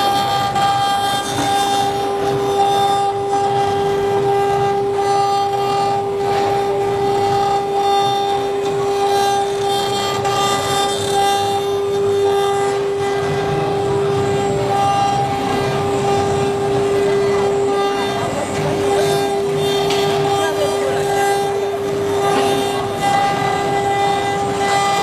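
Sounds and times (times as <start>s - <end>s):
machine engraving wood: 0.0s - 25.0s
router spindles whining: 0.0s - 25.0s.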